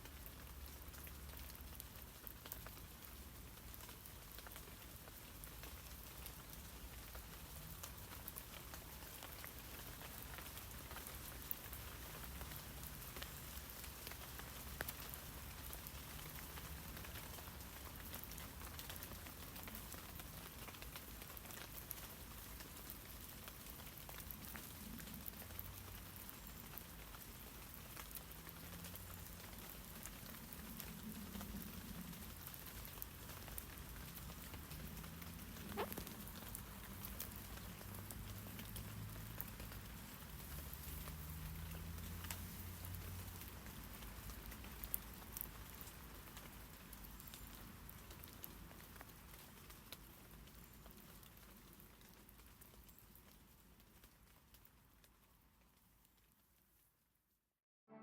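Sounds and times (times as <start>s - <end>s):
rain pattering on leaves: 0.0s - 57.4s.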